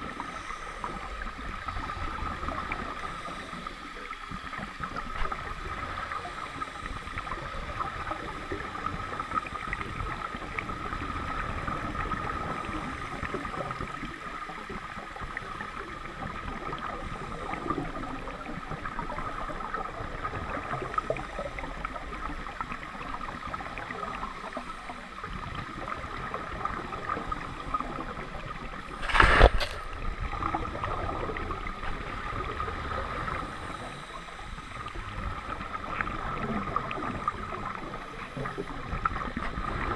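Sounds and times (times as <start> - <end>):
faint steady hum: 0.0 - 39.9
steady underwater hiss: 0.0 - 39.9.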